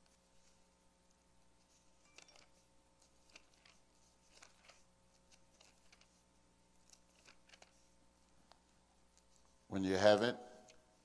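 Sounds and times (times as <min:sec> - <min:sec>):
soft clicks and rustles: 0:00.0 - 0:09.7
faint steady hum: 0:00.0 - 0:11.0.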